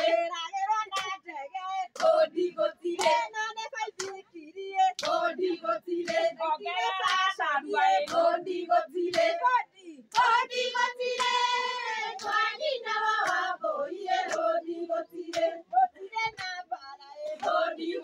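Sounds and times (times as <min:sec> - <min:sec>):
hand claps: 0:00.0 - 0:08.4, 0:09.0 - 0:14.6, 0:15.2 - 0:15.6, 0:16.2 - 0:17.6
women singing together: 0:00.0 - 0:18.0.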